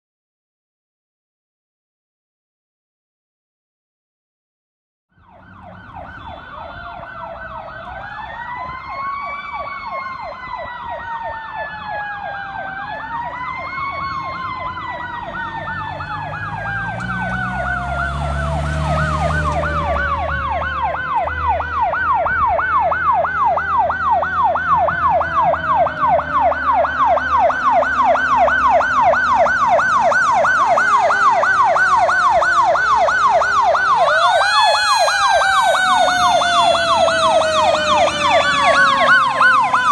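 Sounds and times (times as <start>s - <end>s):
electronic siren yelping: 5.2s - 39.9s
engine rumble: 5.2s - 39.9s.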